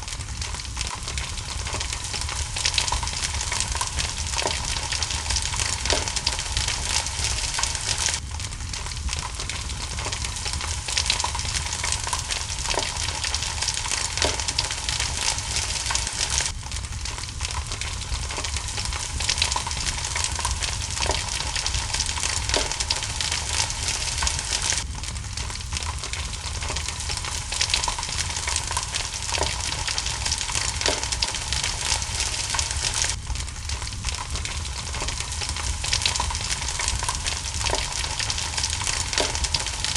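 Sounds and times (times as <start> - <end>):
rain hissing: 0.0 - 39.9
wood fire crackling and popping: 0.0 - 39.9.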